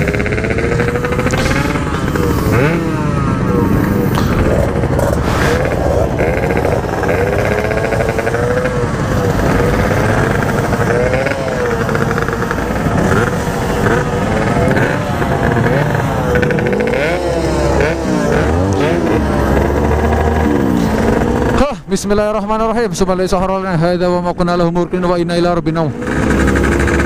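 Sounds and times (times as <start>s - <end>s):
two-stroke motorcycle engine revving: 0.0s - 21.8s, 25.8s - 27.0s.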